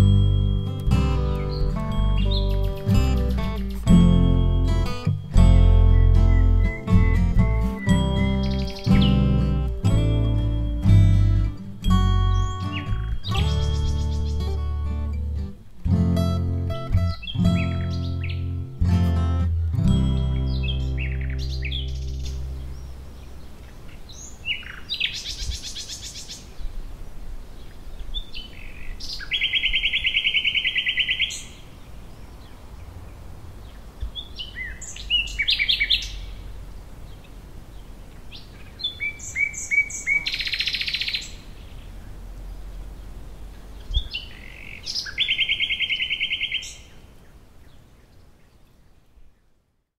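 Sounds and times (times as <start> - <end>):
songbird chirps and buzzy trill: 0.0 - 26.8, 27.4 - 49.6
faint outdoor hiss: 0.0 - 49.9.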